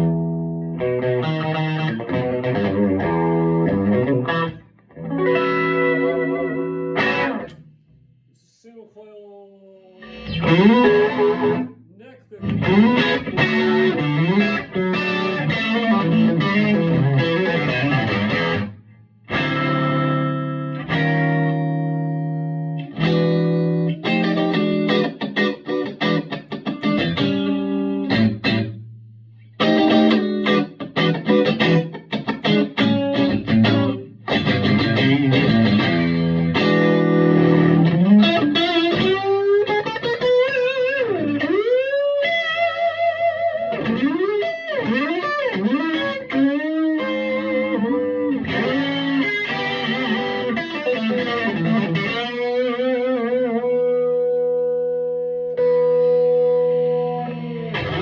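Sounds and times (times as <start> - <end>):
electric guitar playing: 0.0 - 8.2, 9.8 - 58.0.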